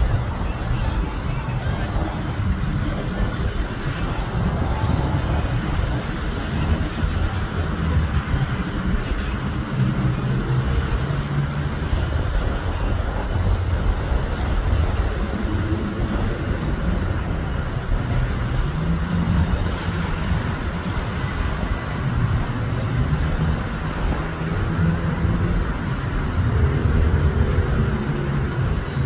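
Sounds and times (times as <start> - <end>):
car engines passing: 0.0 - 29.0.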